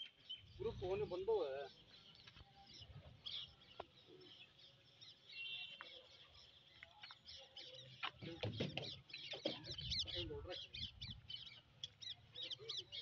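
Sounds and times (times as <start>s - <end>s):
bird trill: 0.0s - 13.0s
small birds chirping faintly: 0.0s - 13.0s.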